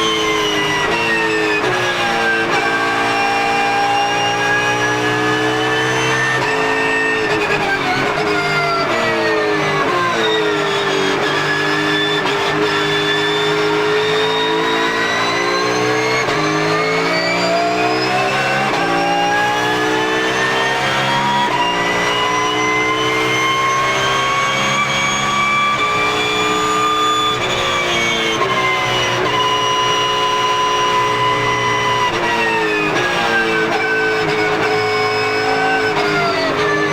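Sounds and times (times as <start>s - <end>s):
high gear whine: 0.0s - 36.9s.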